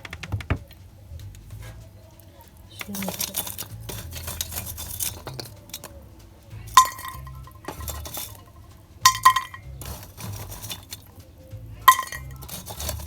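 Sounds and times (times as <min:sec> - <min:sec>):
rustling and scraping: 0:00.0 - 0:13.0
metal pot clinking: 0:02.5 - 0:13.0.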